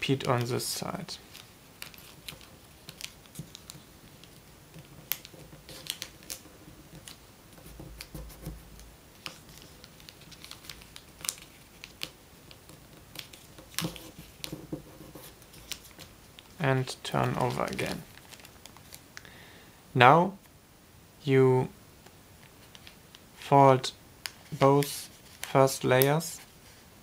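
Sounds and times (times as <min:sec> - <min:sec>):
paper rustling and creasing: 0:00.0 - 0:19.2, 0:22.4 - 0:23.2, 0:24.2 - 0:26.8.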